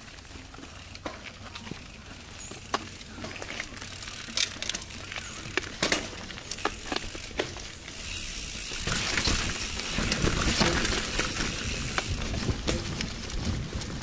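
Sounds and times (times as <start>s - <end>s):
bike chain clicking and rattling: 0.0s - 14.0s.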